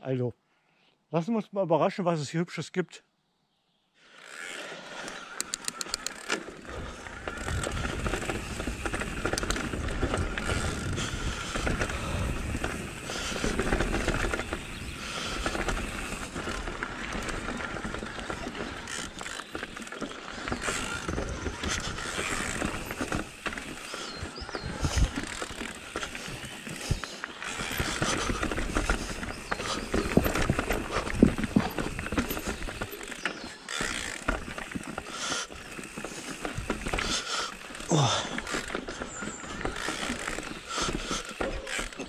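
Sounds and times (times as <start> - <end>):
bike chain and frame clattering: 5.2 - 42.0
wheels knocking on rocks: 5.4 - 42.0
tyres crunching over rock: 5.5 - 42.0.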